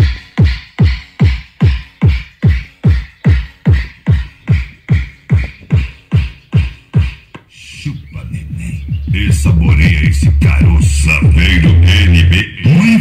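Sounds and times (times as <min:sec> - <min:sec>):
bass-heavy electronic music: 0:00.0 - 0:13.0.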